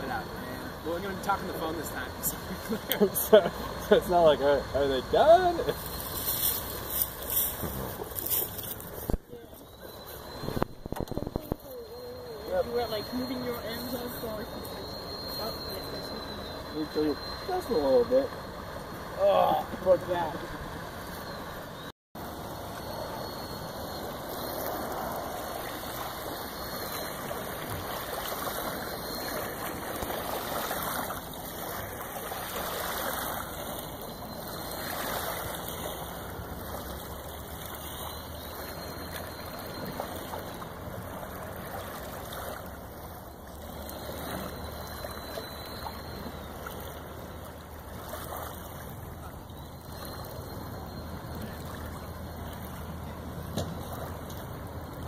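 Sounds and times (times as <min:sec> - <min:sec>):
water rushing and gurgling: 0:00.0 - 0:55.0.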